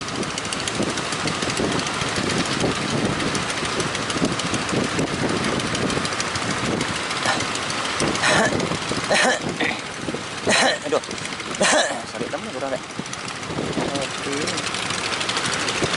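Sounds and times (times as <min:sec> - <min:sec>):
boat engine running: 0:00.0 - 0:15.9
wind: 0:00.0 - 0:15.9.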